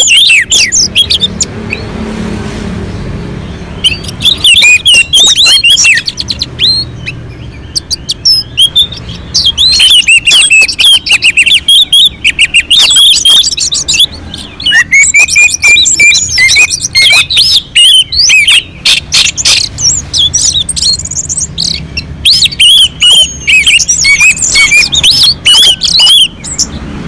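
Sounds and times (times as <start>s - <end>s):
thrush singing: 0.0s - 27.0s.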